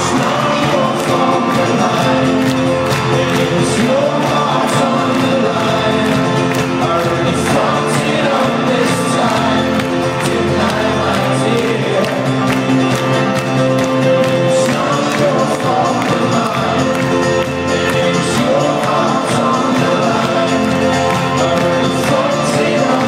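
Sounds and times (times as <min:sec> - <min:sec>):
live folk-rock band: 0:00.0 - 0:23.0
person singing: 0:00.0 - 0:23.0.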